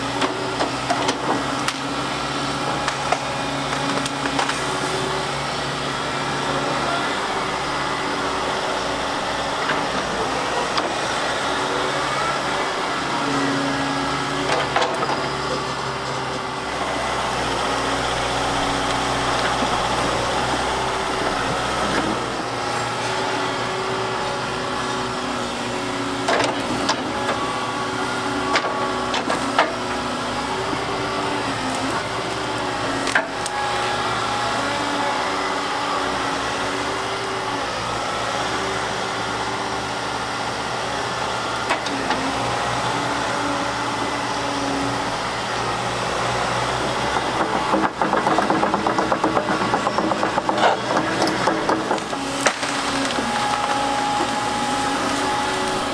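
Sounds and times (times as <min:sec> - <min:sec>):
diesel excavator engine running: 0:00.0 - 0:55.9.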